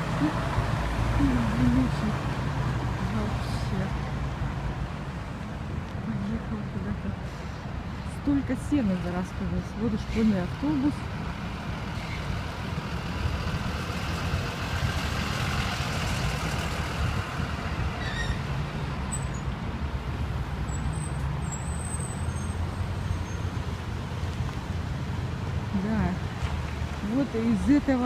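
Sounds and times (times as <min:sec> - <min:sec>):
bus driving past: 0:00.0 - 0:28.0.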